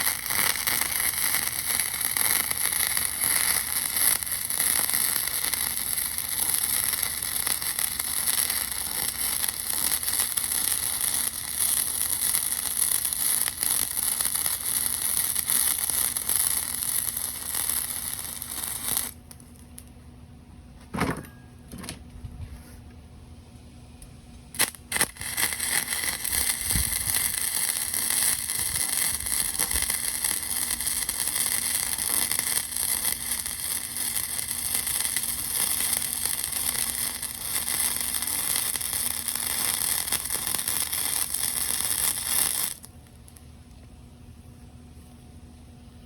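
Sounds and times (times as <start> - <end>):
welding arc hissing: 0.0 - 19.9, 24.5 - 43.5.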